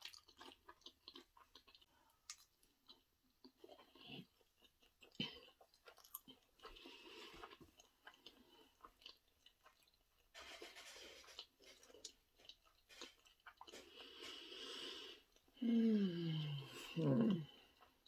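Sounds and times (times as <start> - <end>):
close-miked chewing: 0.0 - 15.6.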